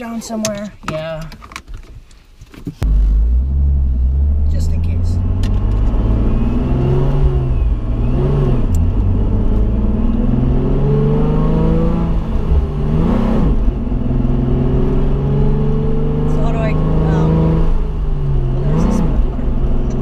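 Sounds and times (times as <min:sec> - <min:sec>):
car engine accelerating: 0:02.8 - 0:20.0.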